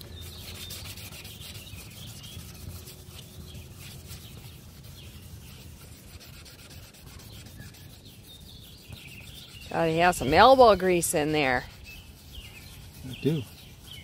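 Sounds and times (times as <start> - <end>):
cloth scrubbing plastic lens: 0.0 - 14.0.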